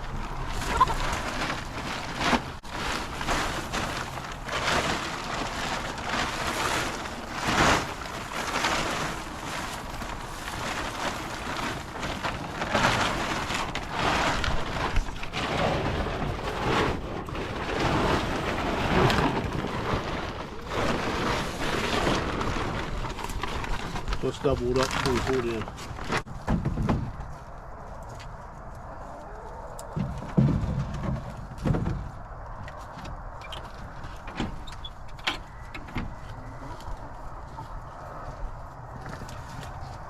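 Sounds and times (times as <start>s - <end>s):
plastic tarp rustling: 0.0s - 27.9s, 29.1s - 40.0s.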